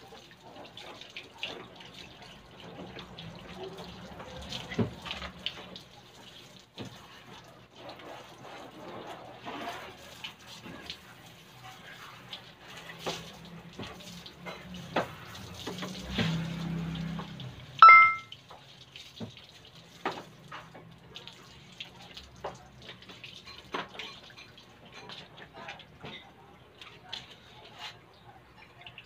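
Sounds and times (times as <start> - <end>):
water running and splashing: 0.0 - 29.0.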